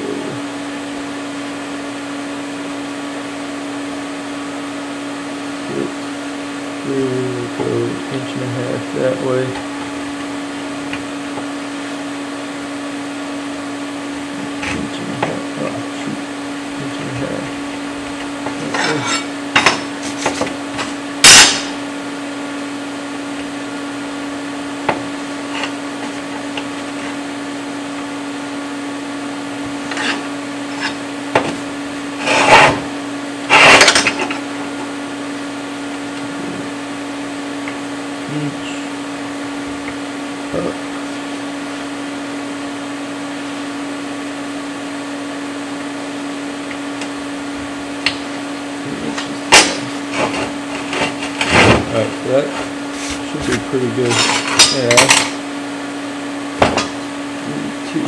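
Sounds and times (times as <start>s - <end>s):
welder humming: 0.0s - 58.0s.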